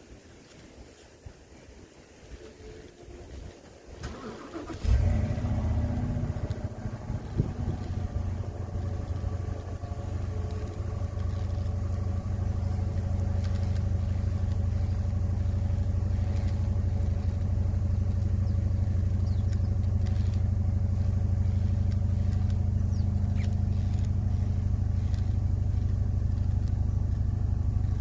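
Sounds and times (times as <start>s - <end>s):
pickup truck engine idling: 4.0s - 28.0s.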